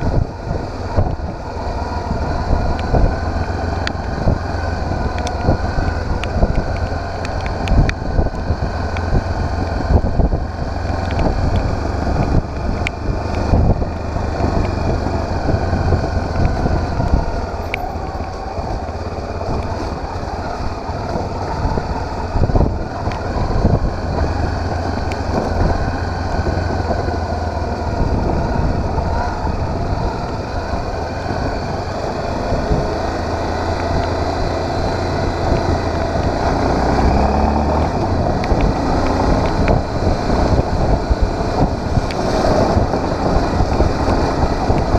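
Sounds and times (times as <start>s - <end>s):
motorcycle engine running: 0.0s - 44.9s
wind on microphone: 0.0s - 44.9s.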